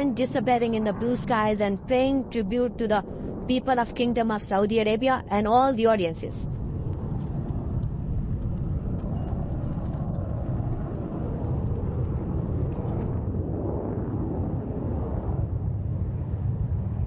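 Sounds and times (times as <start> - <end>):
jet engine low rumble: 0.0 - 17.0.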